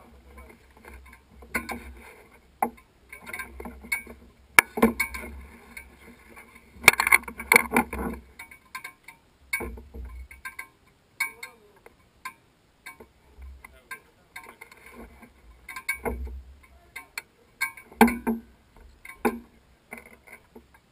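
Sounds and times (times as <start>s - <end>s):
metallic clicks and rattles: 2.6s - 20.9s.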